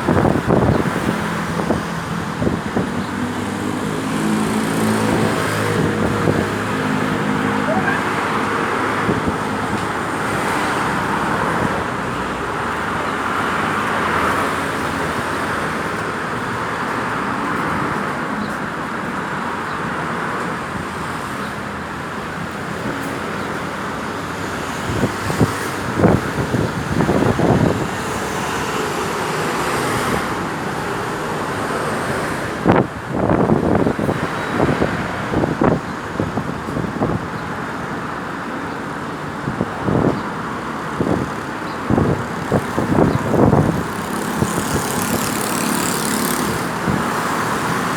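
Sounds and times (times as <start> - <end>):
road traffic noise: 0.0 - 47.9.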